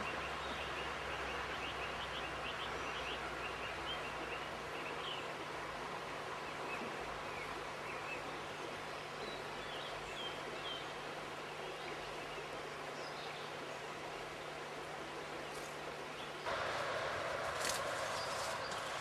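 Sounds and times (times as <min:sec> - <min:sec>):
flowing river: 0:00.0 - 0:19.0.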